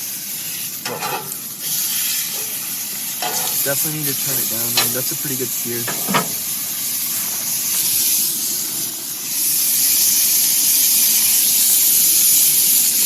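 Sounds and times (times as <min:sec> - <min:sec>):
steaks sizzling on a grill: 0:00.0 - 0:13.0.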